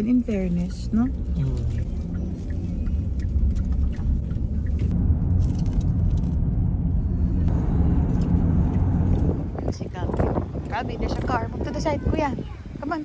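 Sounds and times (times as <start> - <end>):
car driving rumble inside cabin: 0.0 - 12.3.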